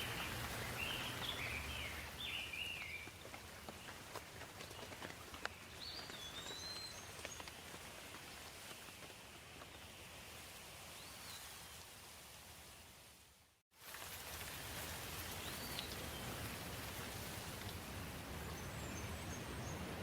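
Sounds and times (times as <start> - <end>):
light rain: 0.0 - 20.0.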